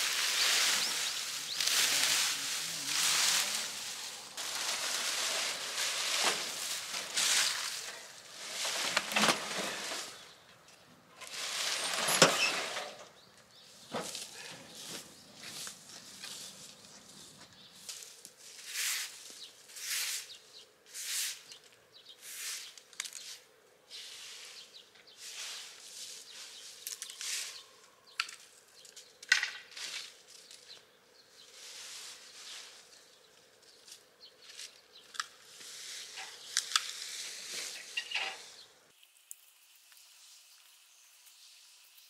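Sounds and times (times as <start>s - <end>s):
sweeping dry leaves on concrete: 0.0s - 10.4s, 11.2s - 13.0s, 13.7s - 29.1s, 29.7s - 38.7s.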